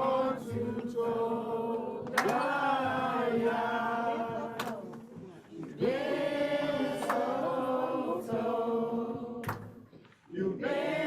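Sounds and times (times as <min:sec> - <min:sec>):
congregation singing unaccompanied: 0:00.0 - 0:11.0.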